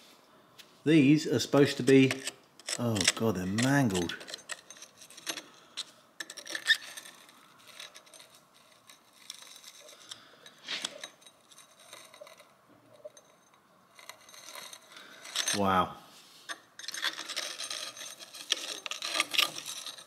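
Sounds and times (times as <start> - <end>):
screwdriver scraping metal: 1.6 - 15.8, 16.4 - 20.0.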